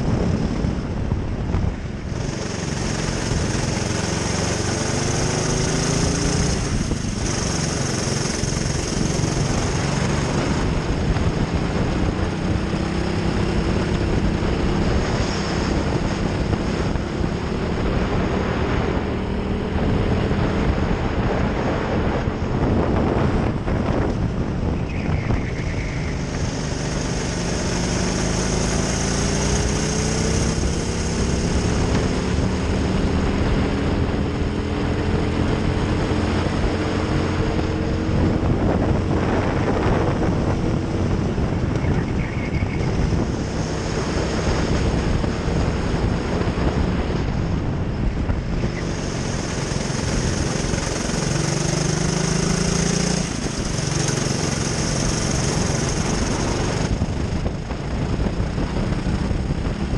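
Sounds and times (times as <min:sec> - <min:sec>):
wind noise on microphone: 0:00.0 - 0:59.9
kart engine revving: 0:02.0 - 0:24.8, 0:25.4 - 0:47.3, 0:48.6 - 0:59.9.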